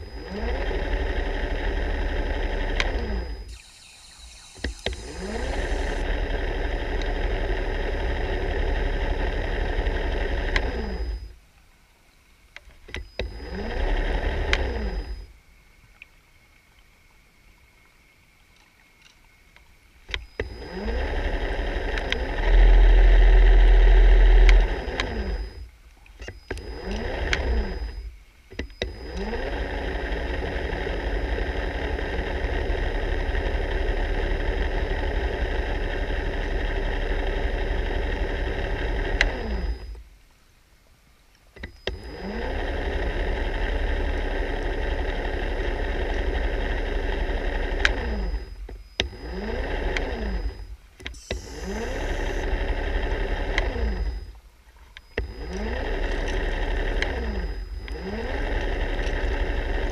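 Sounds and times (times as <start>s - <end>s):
underwater scooter motor whirring: 0.0s - 11.4s, 12.6s - 15.6s, 20.0s - 40.2s, 41.5s - 59.9s.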